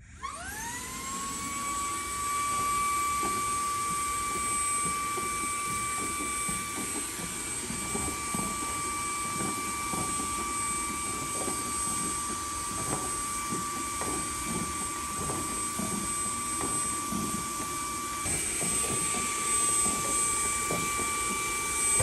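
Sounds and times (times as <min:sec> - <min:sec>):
vacuum motor whining: 0:00.0 - 0:22.0.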